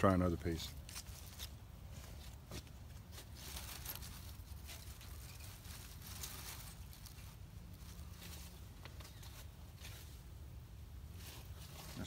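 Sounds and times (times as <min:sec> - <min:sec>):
dry leaves rustling and crackling: 0:00.4 - 0:12.0.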